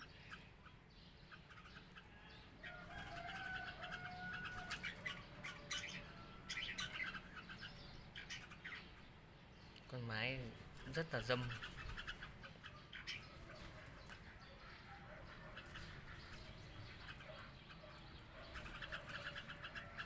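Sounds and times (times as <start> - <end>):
birds chirping and chattering: 0.0 - 20.0.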